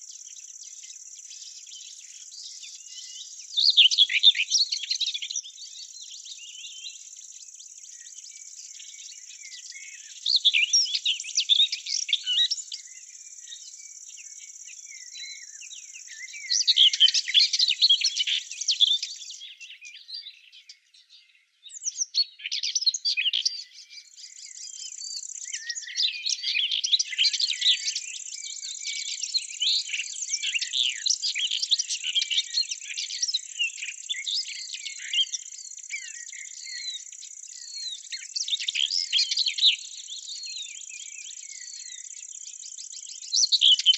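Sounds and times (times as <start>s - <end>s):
songbirds twittering: 0.0s - 43.9s.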